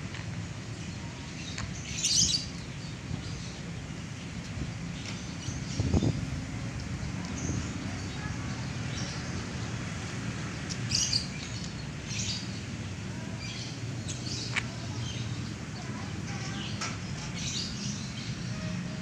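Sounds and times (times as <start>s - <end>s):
birds chirping: 0.7s - 19.0s.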